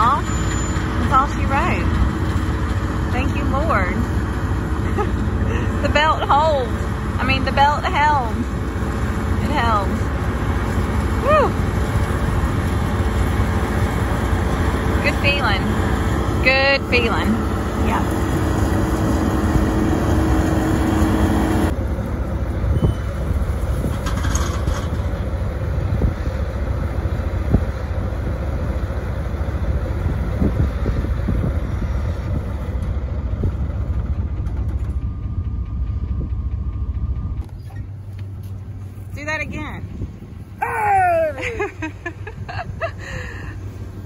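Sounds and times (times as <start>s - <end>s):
combine engine rumble: 0.0s - 44.0s.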